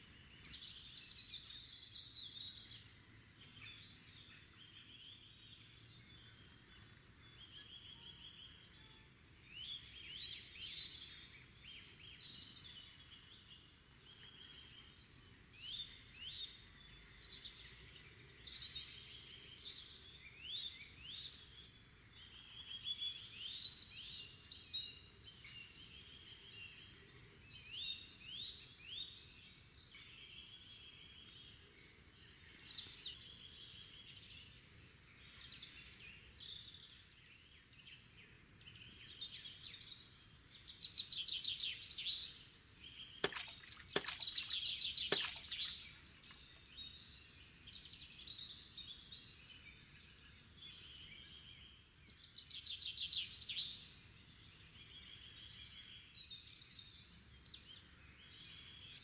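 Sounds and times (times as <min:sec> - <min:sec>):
faint outdoor background hiss: 0:00.0 - 0:59.0
songbirds singing in chorus: 0:00.0 - 0:59.0.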